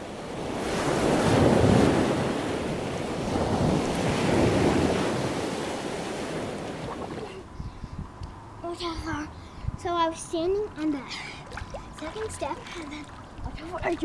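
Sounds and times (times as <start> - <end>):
rushing surf-like water: 0.0 - 7.5, 10.1 - 14.0.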